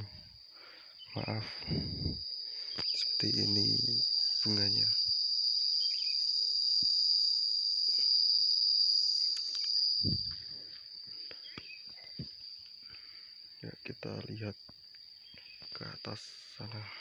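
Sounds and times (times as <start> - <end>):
insects buzzing shrilly: 0.0 - 17.0.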